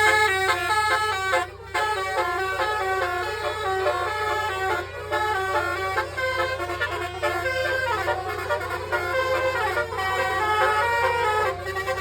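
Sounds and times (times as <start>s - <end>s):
multi-tone air horn melody: 0.0s - 12.0s.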